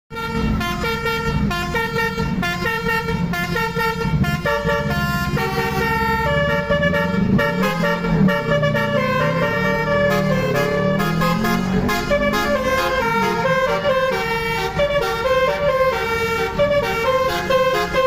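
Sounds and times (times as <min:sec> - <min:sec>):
air horns playing a tune: 0:00.1 - 0:18.0.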